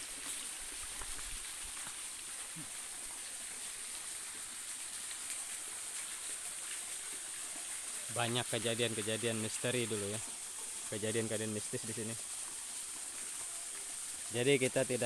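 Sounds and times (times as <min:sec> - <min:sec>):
small waterfall trickling over rock: 0:00.0 - 0:15.0.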